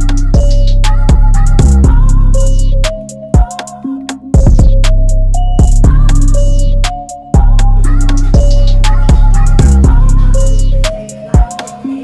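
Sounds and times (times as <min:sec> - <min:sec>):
hip-hop instrumental music: 0:00.0 - 0:12.0.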